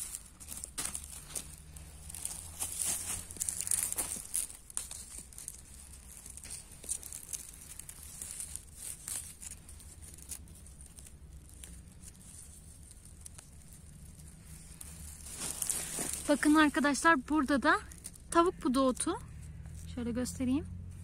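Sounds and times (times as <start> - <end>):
twigs snapping: 0.0 - 17.0, 17.8 - 19.9
dry vegetation rustling and crackling: 0.0 - 21.0.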